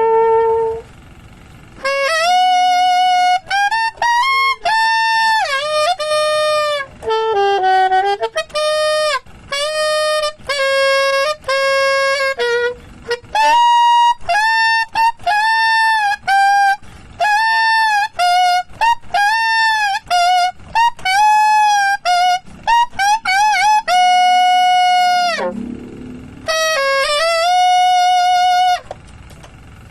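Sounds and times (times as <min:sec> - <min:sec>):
saxophone melody: 0:00.0 - 0:01.0, 0:01.8 - 0:28.9.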